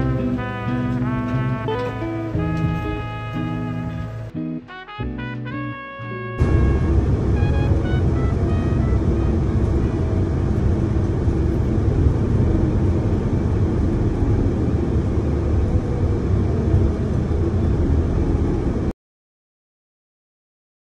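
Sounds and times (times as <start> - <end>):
bus engine and tyres rumbling: 0.0 - 4.3, 6.4 - 18.9.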